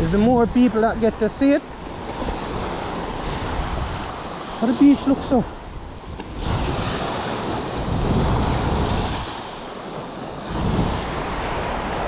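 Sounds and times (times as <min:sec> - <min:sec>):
small waves breaking on sand: 0:00.0 - 0:12.0
wind rumbling on microphone: 0:00.0 - 0:12.0.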